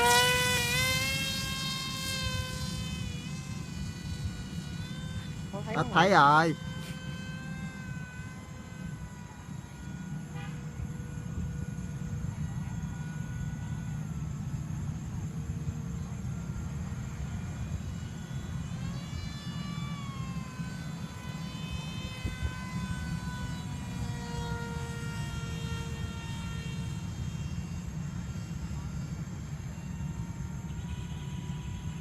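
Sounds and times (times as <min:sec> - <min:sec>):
model plane motor whining: 0:00.0 - 0:32.0.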